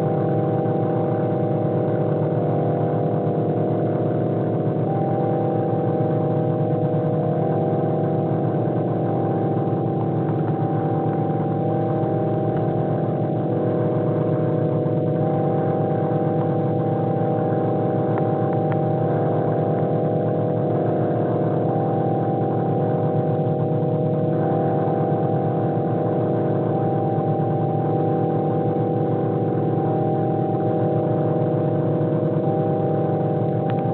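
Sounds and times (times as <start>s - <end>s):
dense electronic drone: 0.0s - 33.9s.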